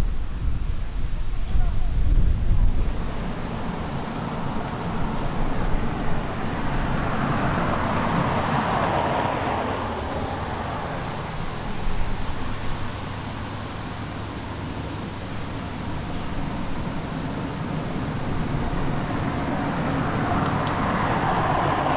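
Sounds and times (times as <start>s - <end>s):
low traffic rumble: 0.0s - 21.9s
tyre noise of passing cars: 2.6s - 21.9s.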